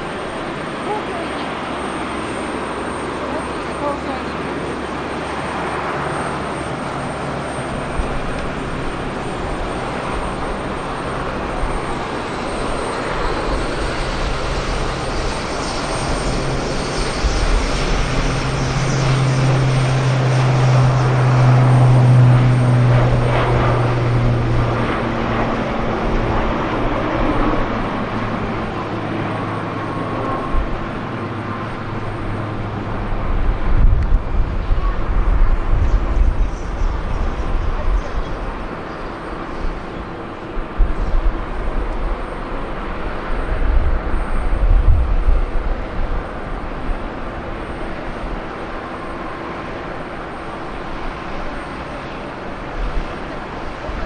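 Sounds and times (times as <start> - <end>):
aircraft engines running: 0.0 - 54.0.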